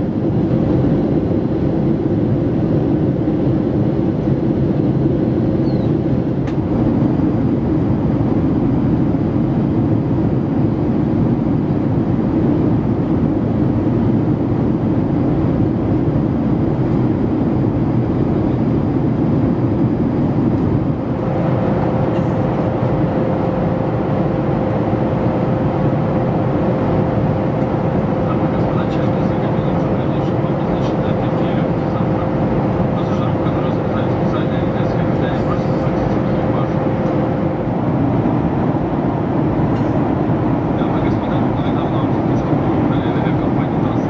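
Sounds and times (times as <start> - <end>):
airflow over fuselage: 0.0 - 44.0
constant hum: 0.0 - 44.0
jet engines roaring: 0.0 - 44.0.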